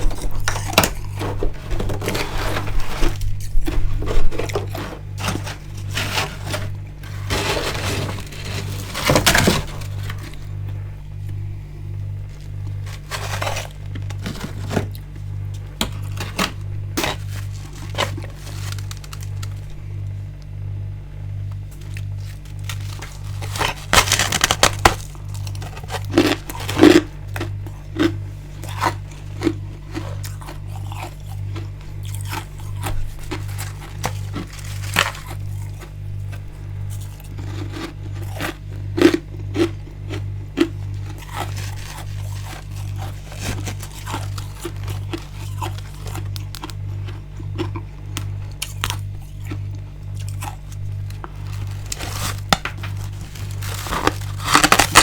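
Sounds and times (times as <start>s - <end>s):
chewing frost and ice: 0.0s - 20.4s, 21.5s - 55.0s
low pulsing hum: 0.0s - 55.0s.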